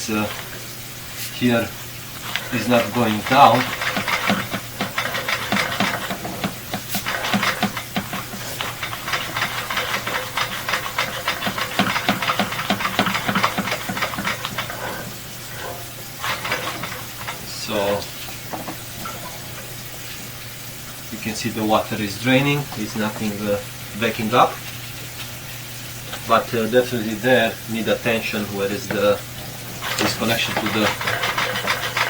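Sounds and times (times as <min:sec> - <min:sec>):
crackling and scraping in pipe: 0:00.0 - 0:27.2, 0:27.8 - 0:32.0
low electrical hum: 0:00.0 - 0:32.0.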